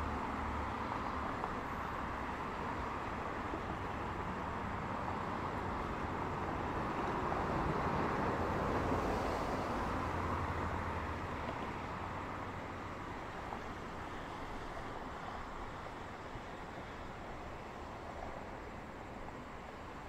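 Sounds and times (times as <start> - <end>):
cars passing on a road: 0.0 - 20.0.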